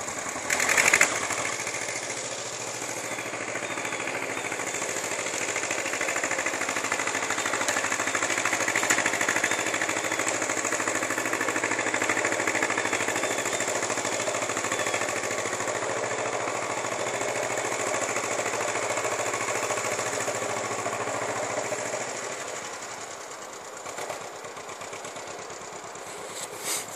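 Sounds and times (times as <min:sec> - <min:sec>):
tractor engine chugging: 0:00.0 - 0:26.9.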